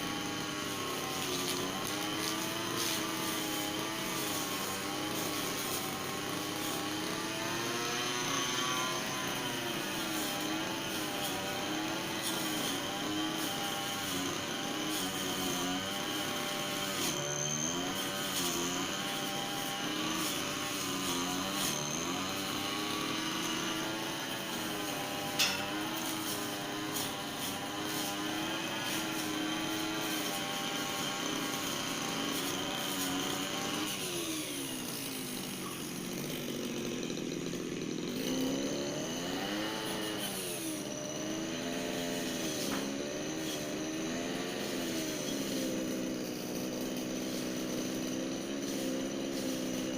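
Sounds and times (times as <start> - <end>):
brush cutter engine running: 0.0 - 49.9.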